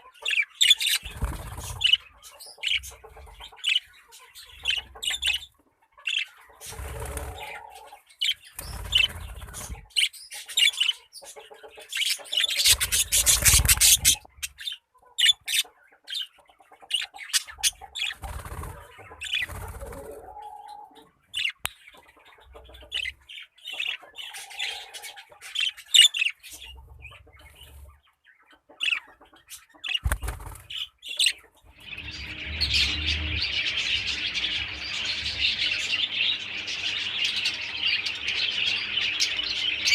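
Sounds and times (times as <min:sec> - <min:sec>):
parrots chirping and squawking: 0:00.0 - 0:21.6, 0:22.2 - 0:39.9.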